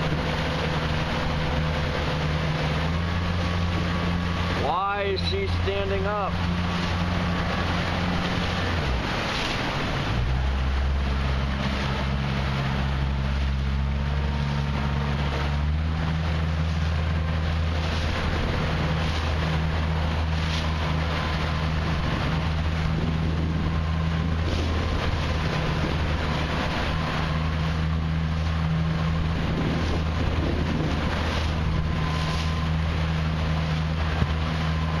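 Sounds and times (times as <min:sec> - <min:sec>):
outboard motor humming: 0:00.0 - 0:35.0
water rushing along hull: 0:00.0 - 0:35.0
wind buffeting microphone: 0:00.0 - 0:35.0.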